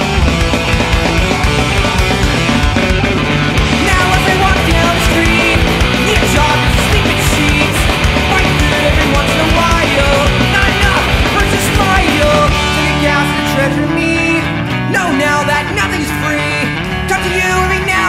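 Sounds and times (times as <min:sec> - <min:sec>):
drums: 0:00.0 - 0:18.0
electric guitar: 0:00.0 - 0:18.0
punk rock band playing: 0:00.0 - 0:18.0.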